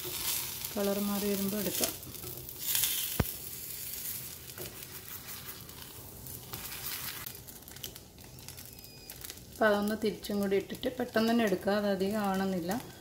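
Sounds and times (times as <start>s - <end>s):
crepe sizzling in a pan: 0.0s - 13.0s.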